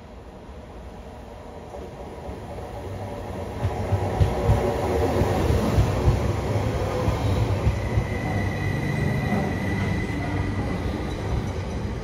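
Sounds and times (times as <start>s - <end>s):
train wheels rumbling: 1.7s - 12.0s.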